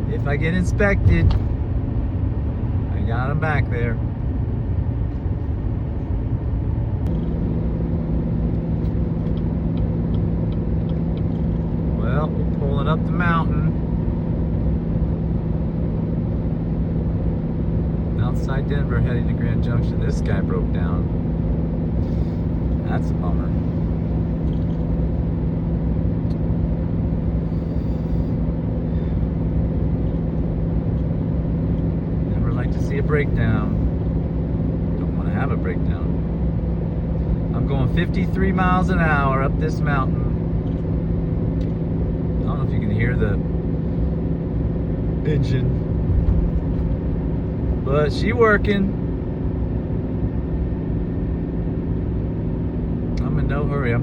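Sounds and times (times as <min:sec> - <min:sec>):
road rumble: 0:00.0 - 0:54.0
truck engine drone: 0:00.0 - 0:54.0.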